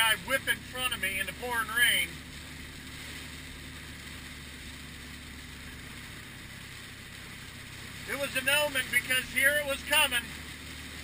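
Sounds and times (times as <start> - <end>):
vehicle engine and road hum: 0.0 - 11.0.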